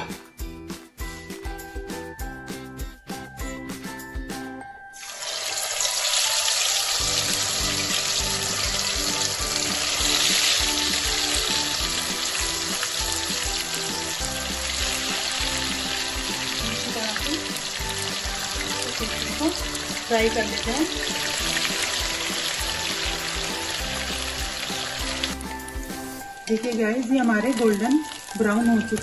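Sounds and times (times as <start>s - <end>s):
background music: 0.0s - 29.0s
fish sizzling in hot oil: 5.0s - 29.0s.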